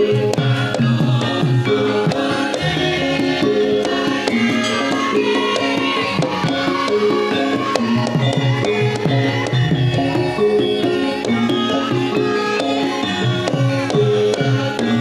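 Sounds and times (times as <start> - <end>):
metal-keyed melodic tones: 0.0 - 15.0.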